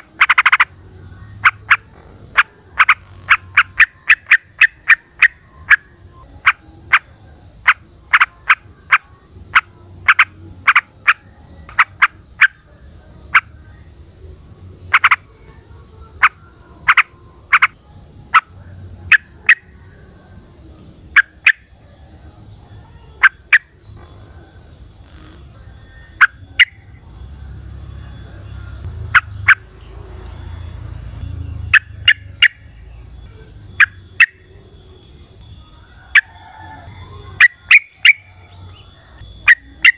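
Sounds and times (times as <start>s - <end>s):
continuous high hum: 0.0s - 39.9s
insects trilling: 0.0s - 39.9s.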